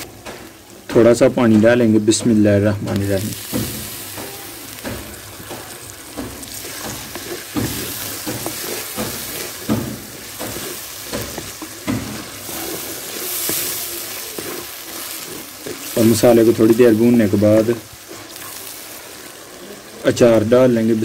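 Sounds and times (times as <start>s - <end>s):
masala sizzling in a pot: 0.0s - 21.0s
wooden spatula scraping a pot: 2.9s - 20.5s.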